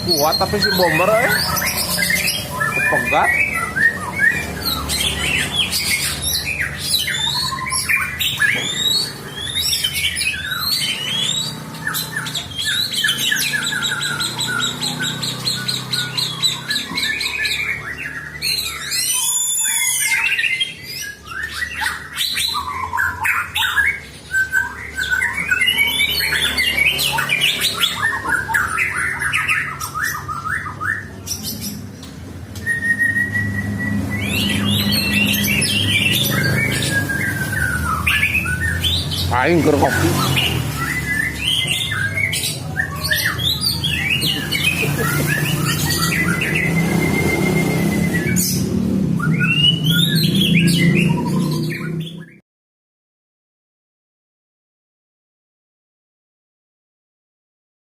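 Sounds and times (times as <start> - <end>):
songbirds singing: 0.0 - 52.4.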